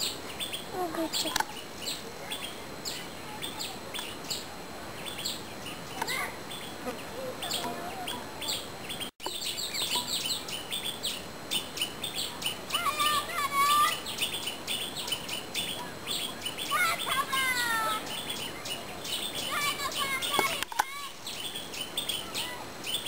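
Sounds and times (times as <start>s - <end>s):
birds chirping: 0.0s - 23.0s
whistled bird notes: 0.0s - 23.0s.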